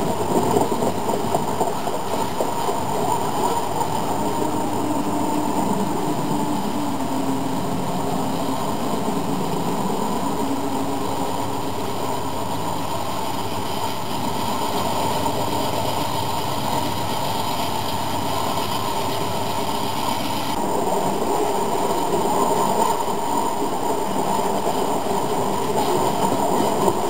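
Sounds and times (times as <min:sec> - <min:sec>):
model train wheels rattling on track: 0:00.0 - 0:27.0.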